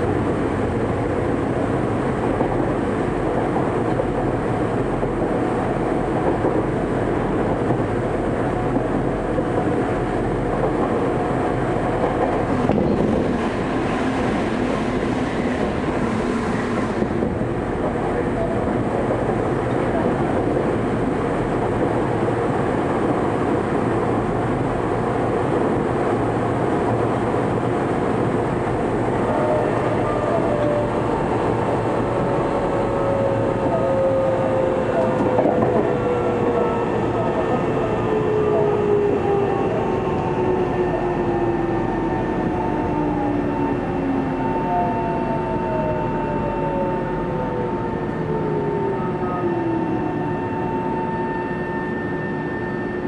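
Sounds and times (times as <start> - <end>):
train wheels rolling on rails: 0.0 - 44.7.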